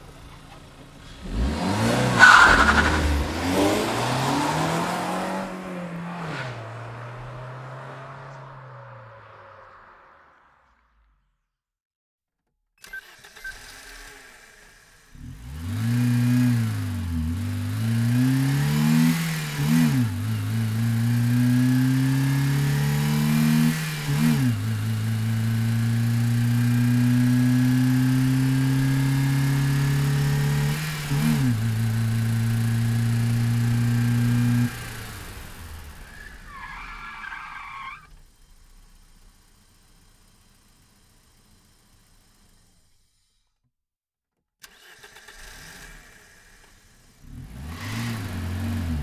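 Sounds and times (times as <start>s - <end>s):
car engine starting and revving: 0.0s - 10.9s, 12.8s - 43.2s, 44.6s - 49.0s.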